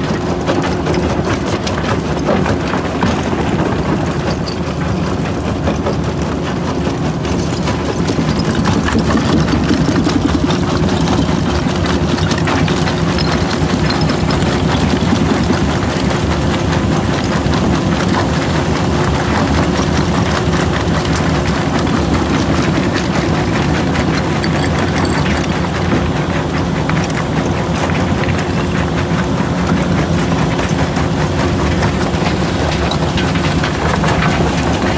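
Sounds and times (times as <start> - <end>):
rubble clattering and knocking: 0.0 - 34.9.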